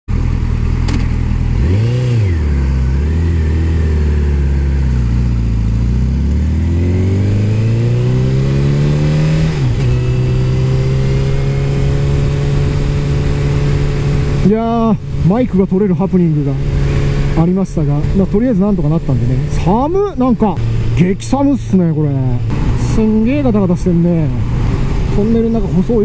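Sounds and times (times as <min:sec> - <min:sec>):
motorcycle engine revving: 0:00.1 - 0:26.0.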